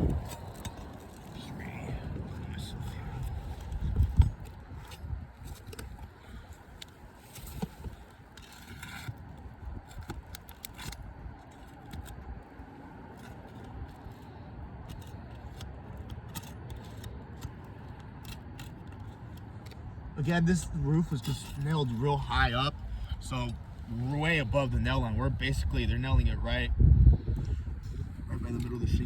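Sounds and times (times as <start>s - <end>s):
pry bar scraping under shingles: 0.0s - 25.8s
low steady rumble: 0.0s - 29.0s.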